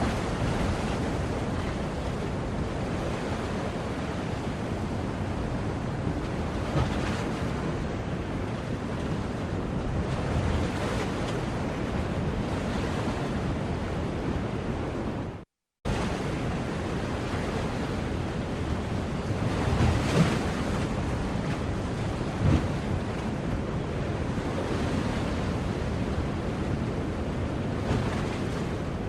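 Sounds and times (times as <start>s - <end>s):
sea surf rushing: 0.0s - 29.0s.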